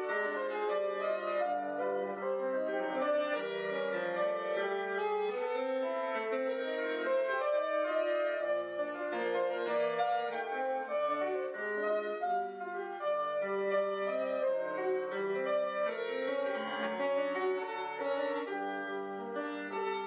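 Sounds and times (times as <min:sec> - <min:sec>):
grand piano playing: 0:00.0 - 0:20.0.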